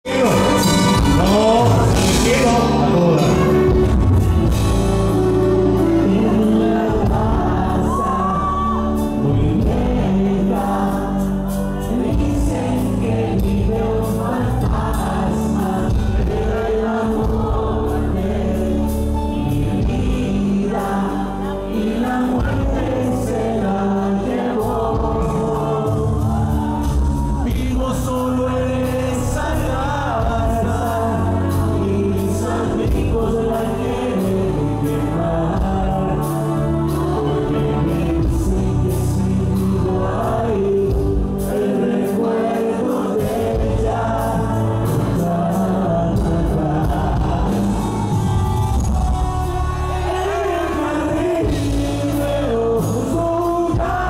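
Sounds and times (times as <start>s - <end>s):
drums: 0.0s - 54.0s
man singing lead: 0.0s - 54.0s.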